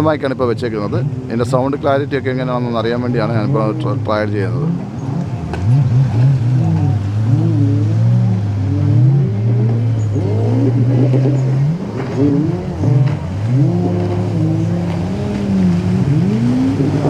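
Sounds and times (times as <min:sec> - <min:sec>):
jet ski engines revving: 0:00.0 - 0:17.0
steady low drone: 0:02.1 - 0:17.0.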